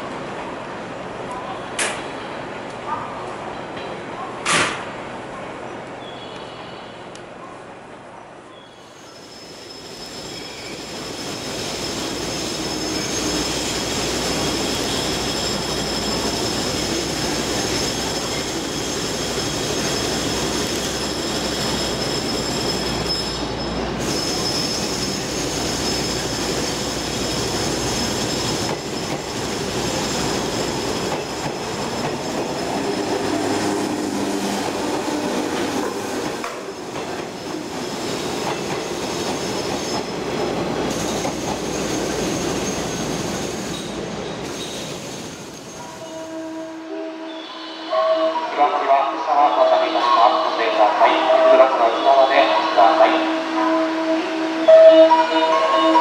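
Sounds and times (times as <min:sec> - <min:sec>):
train wheels rumbling and squealing: 0:08.5 - 0:56.0.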